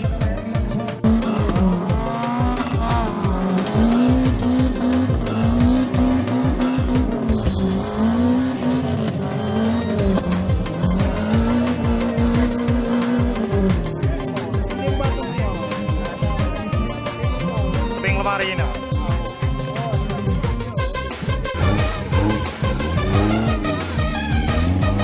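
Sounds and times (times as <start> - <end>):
electronic drum beat: 0.0 - 25.0
lead melody bending in pitch: 0.9 - 25.0.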